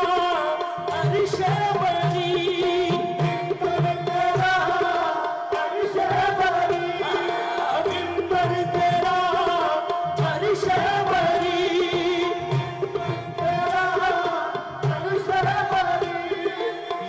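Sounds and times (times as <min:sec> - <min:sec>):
men singing: 0:00.0 - 0:17.0
tabla strokes: 0:00.0 - 0:17.0.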